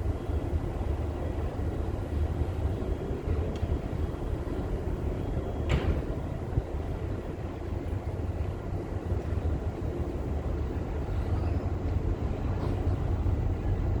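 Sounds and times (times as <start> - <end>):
ferry diesel engines rumbling: 0.0 - 14.0.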